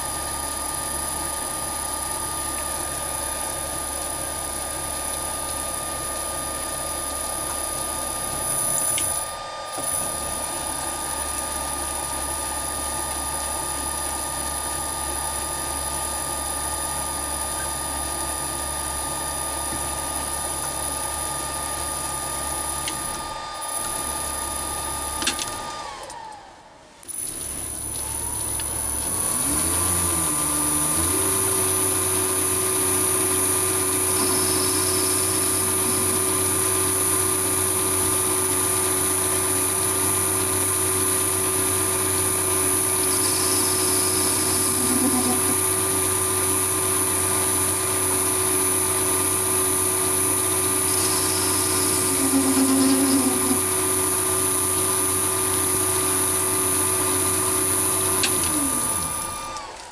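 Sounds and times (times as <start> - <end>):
lathe motor humming and whining: 0.0 - 59.9.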